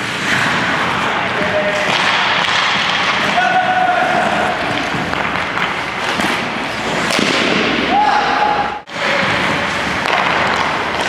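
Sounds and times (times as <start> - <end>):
skate blades scraping ice: 0.0 - 7.8, 8.9 - 11.0
hockey sticks hitting pucks: 0.0 - 11.0.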